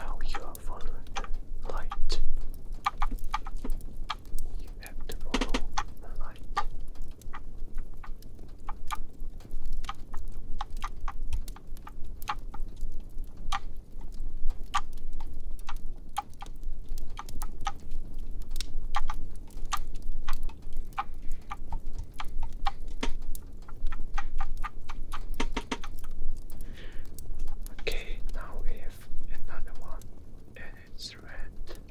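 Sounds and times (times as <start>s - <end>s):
fireplace crackling: 0.0s - 31.9s
low steady rumble: 0.0s - 31.9s.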